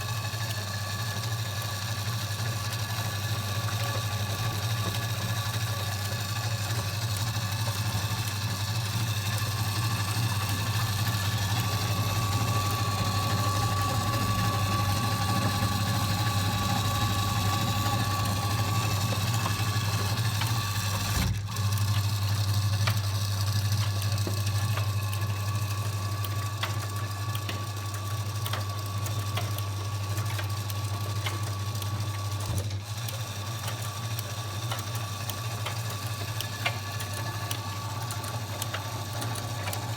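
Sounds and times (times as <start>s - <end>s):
washing machine humming and whining: 0.0s - 39.9s.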